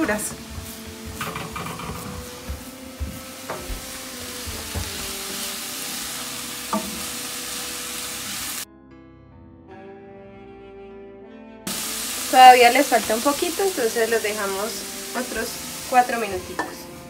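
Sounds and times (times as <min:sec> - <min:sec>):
vegetables sizzling in frying pan: 0:00.0 - 0:08.7, 0:11.7 - 0:17.0
soft background music: 0:00.0 - 0:17.0.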